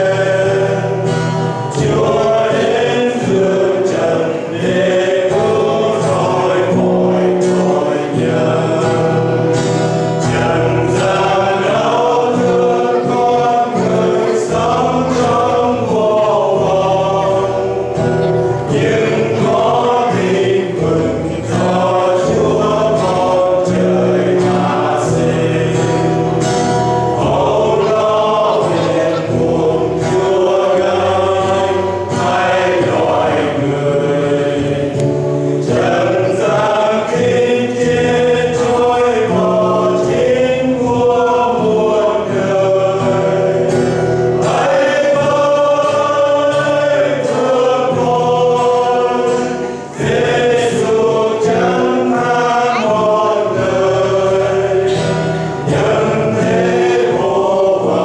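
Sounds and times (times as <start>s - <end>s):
acoustic guitar: 0.0s - 58.0s
men's choir singing a hymn: 0.0s - 58.0s.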